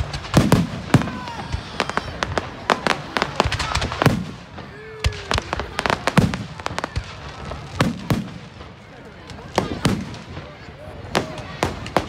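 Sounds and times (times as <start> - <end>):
deep fireworks booms: 0.0 - 12.0
fireworks bangs and crackling: 0.0 - 12.0.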